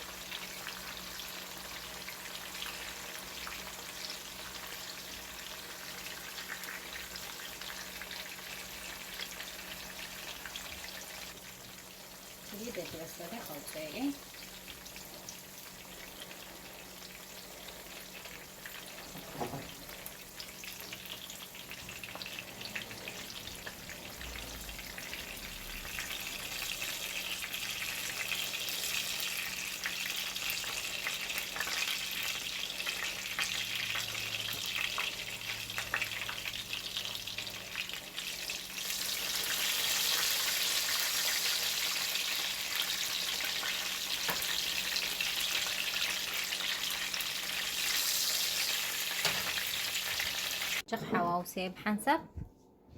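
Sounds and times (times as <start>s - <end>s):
zucchini sizzling in oil: 0.0s - 50.9s.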